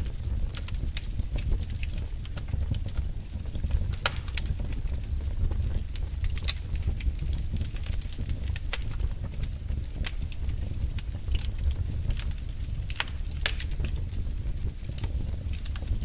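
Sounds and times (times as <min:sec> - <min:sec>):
steady low rumble: 0:00.0 - 0:16.0
wood fire crackling and popping: 0:00.0 - 0:16.0.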